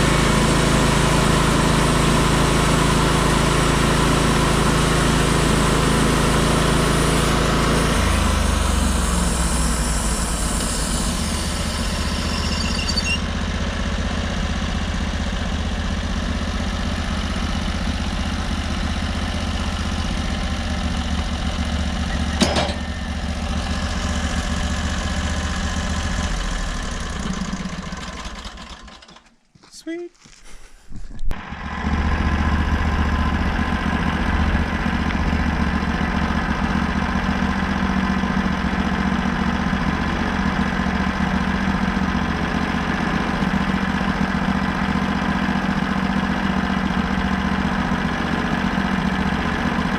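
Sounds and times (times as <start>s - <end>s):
sawmill engine running: 0.0s - 29.3s, 31.3s - 49.9s.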